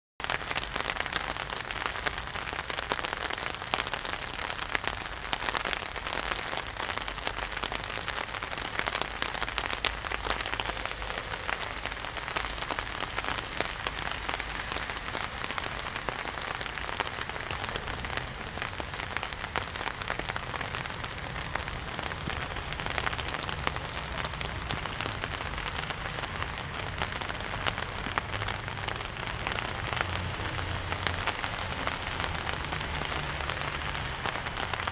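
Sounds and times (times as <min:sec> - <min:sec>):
rain falling on water and pavement: 0:00.2 - 0:34.9.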